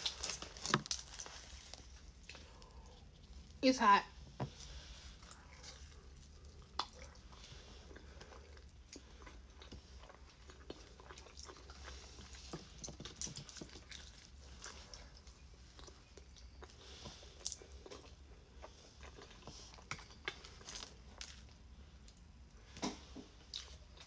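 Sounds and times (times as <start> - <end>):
person chewing pizza: 0.0 - 3.6, 4.5 - 24.0.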